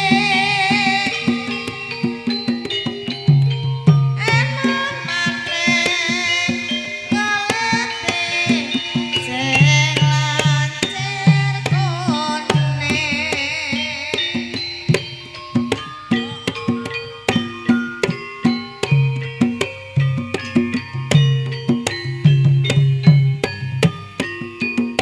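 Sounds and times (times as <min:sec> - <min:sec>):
hand drum strokes: 0:00.0 - 0:25.0
pitched gamelan notes: 0:00.0 - 0:25.0
wavering melody line: 0:00.0 - 0:25.0.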